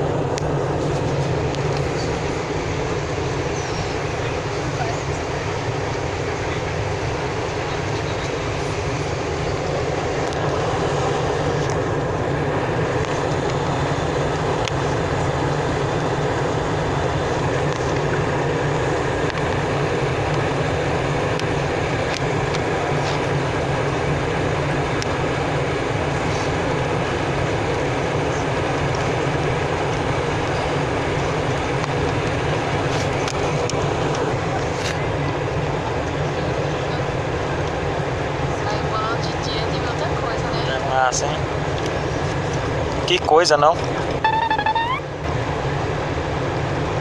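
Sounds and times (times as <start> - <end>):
jet airliner cabin noise: 0.0 - 47.0.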